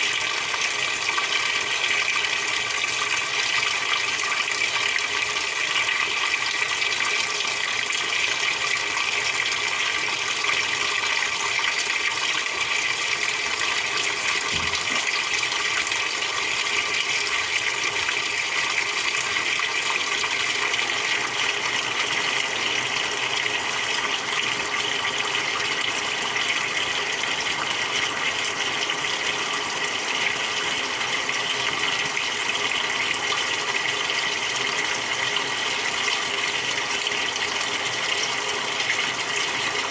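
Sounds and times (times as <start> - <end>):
water rushing through washing machine: 0.0 - 39.9.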